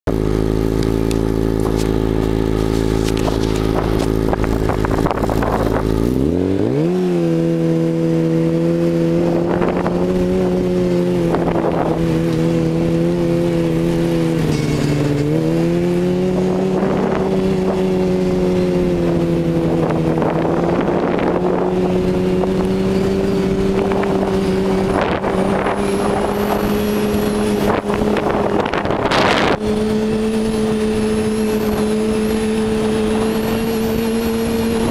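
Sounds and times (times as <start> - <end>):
snowmobile engine revving: 0.1 - 34.9.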